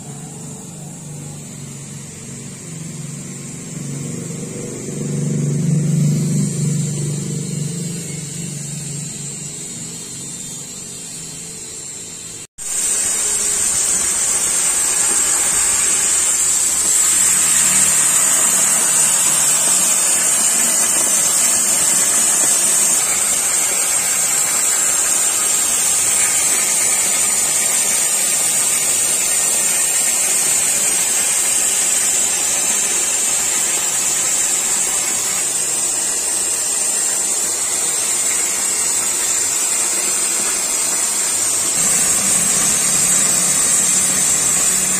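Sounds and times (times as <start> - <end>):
cutting torch hissing: 0.0 - 44.9.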